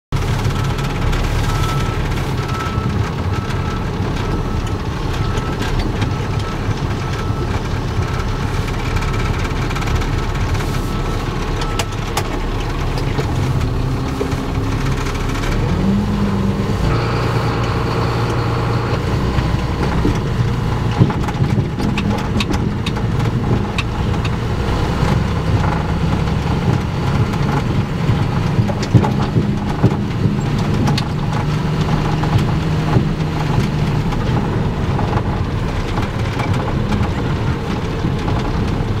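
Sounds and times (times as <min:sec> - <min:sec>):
road and cab noise: 0:00.1 - 0:39.0
truck diesel engine running: 0:00.1 - 0:39.0.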